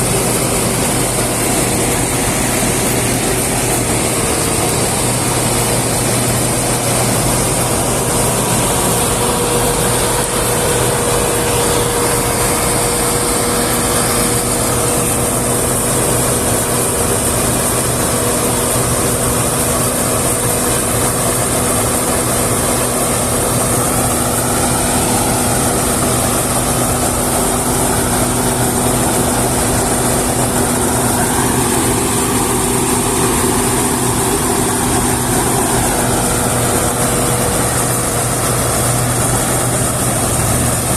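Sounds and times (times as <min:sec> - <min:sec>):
combine harvester engine drone: 0:00.0 - 0:40.9
low machine tone: 0:00.0 - 0:40.9.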